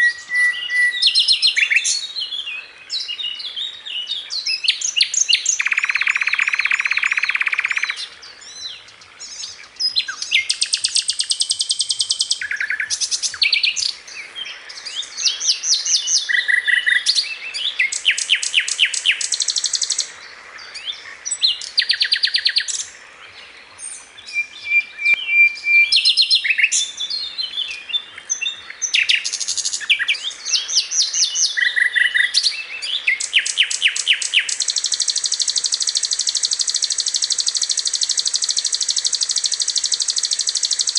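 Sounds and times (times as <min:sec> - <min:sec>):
bird singing trills: 0:00.0 - 0:40.9.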